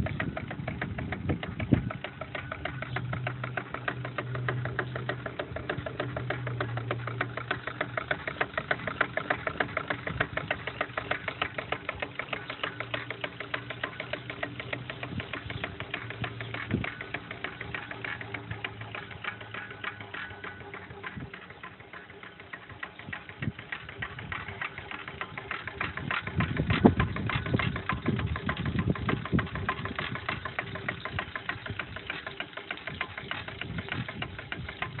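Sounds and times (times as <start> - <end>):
steam engine clicks and puffs: 0.0 - 35.0.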